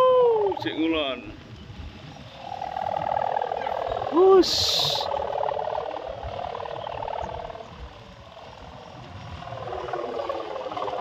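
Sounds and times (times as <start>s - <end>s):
wind buffeting microphone: 0.0s - 11.0s
buzzing drone: 1.6s - 11.0s.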